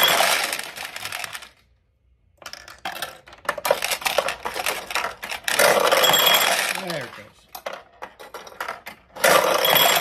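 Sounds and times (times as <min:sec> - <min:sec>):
pachinko balls clattering: 0:00.0 - 0:01.6, 0:02.4 - 0:10.0.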